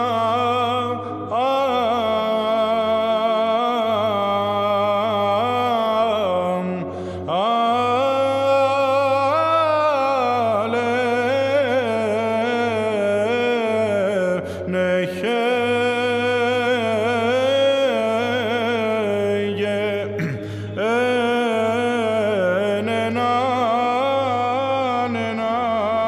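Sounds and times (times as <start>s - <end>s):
man chanting a hymn: 0.0s - 26.0s
steady low vocal drone: 0.0s - 26.0s.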